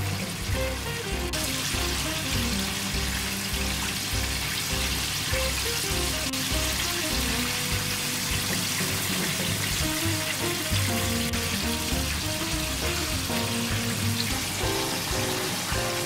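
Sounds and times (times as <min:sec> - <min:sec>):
background music with a beat: 0:00.0 - 0:16.0
chicken deep-frying in oil: 0:00.0 - 0:16.0.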